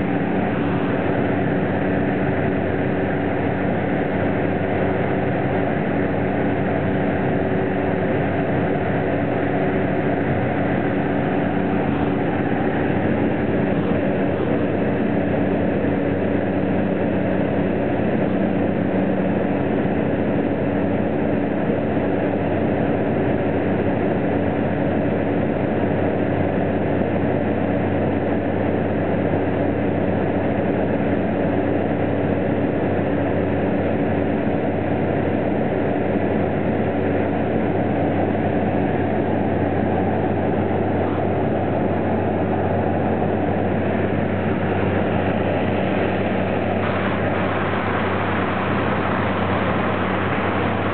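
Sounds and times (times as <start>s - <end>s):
floatplane engine droning: 0.0s - 50.9s.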